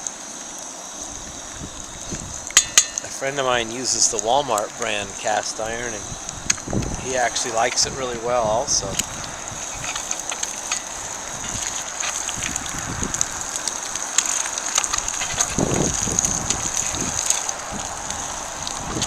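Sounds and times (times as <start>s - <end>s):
eggs sizzling in a skillet: 0.0s - 19.0s.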